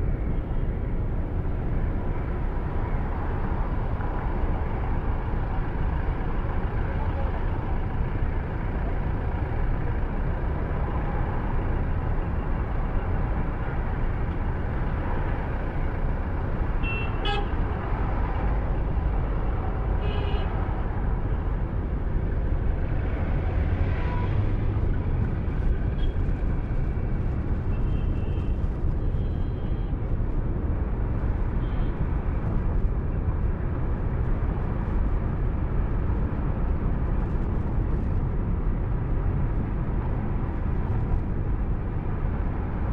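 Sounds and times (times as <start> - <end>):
car road and engine noise: 0.0 - 42.9.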